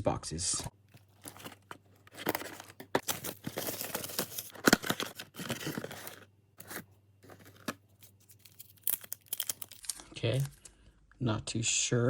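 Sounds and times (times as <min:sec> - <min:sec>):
packaging tearing and crinkling: 0:00.9 - 0:10.7.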